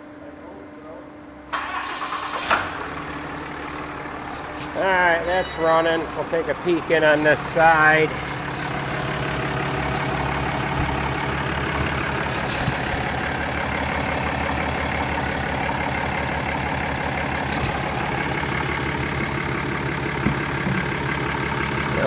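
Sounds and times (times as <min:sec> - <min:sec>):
truck engine idling: 0:01.5 - 0:22.0.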